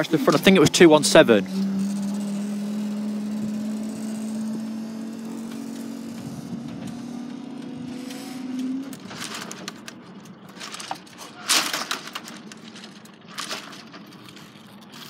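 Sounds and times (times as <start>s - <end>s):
barrier mechanism humming: 0.0s - 15.0s.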